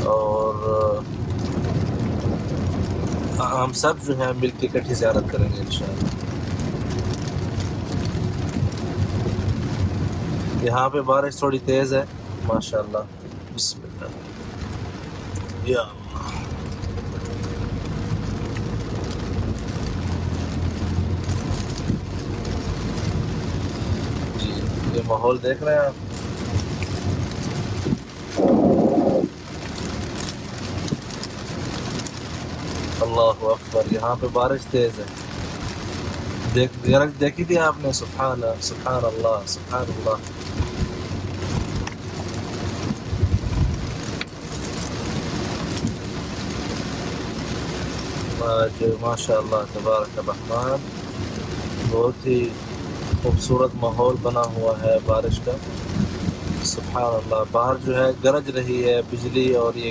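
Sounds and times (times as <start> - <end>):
car road and engine rumble: 0.0 - 59.9
heavy rain hiss and patter: 0.0 - 59.9.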